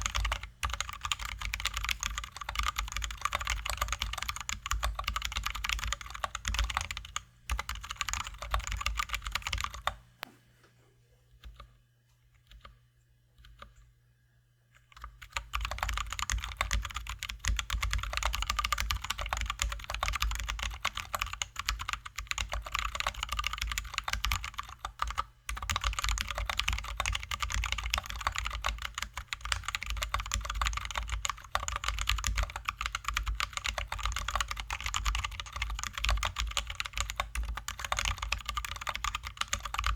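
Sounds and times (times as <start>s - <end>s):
mechanical keyboard typing: 0.0s - 10.0s, 14.9s - 39.9s.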